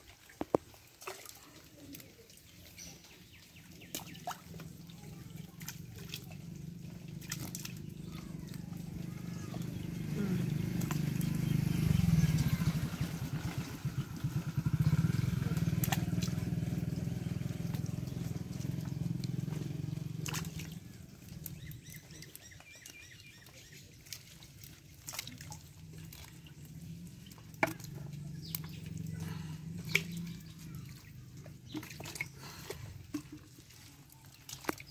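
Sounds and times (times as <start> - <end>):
engine running with pulsing note: 3.4 - 33.6.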